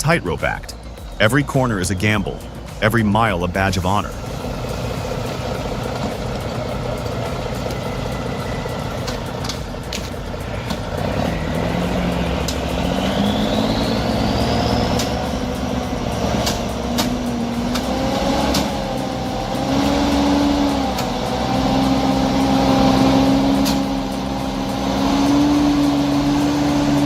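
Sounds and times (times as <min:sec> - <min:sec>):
heavy diesel truck engine: 0:00.0 - 0:27.0
sharp clanks: 0:04.1 - 0:27.0.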